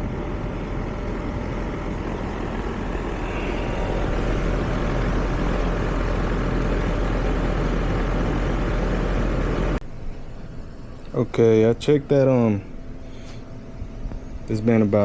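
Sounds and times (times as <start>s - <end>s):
air conditioner fan and compressor: 0.0s - 15.0s.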